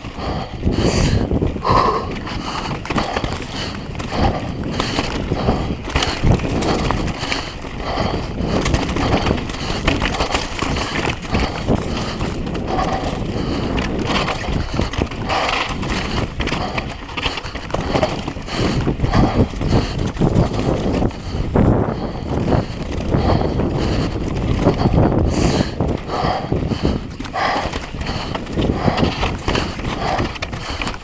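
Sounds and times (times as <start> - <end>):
bike rattling and knocking: 0.0 - 31.0
bike tyres crunching on gravel: 0.0 - 31.0.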